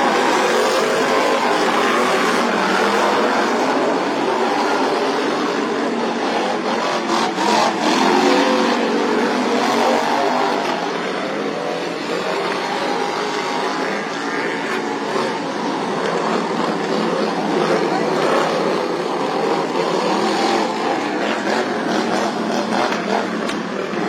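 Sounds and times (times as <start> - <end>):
racing lawn mower engines: 0.0 - 24.0.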